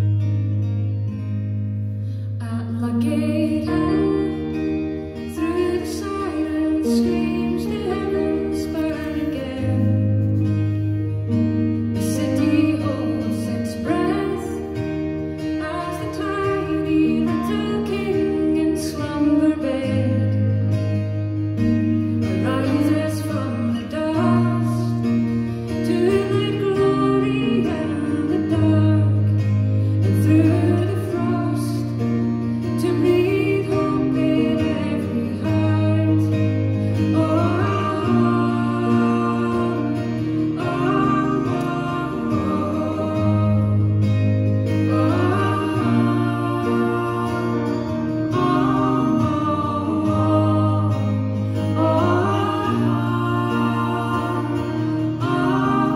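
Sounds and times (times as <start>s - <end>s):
plucked guitar: 0.0s - 55.9s
woman singing: 2.3s - 55.9s.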